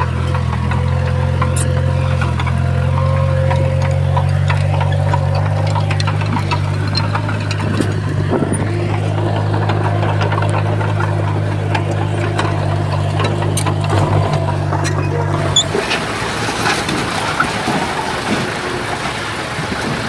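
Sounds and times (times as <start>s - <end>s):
clicks and knocks: 0.0s - 17.5s
diesel engine running: 0.0s - 20.0s.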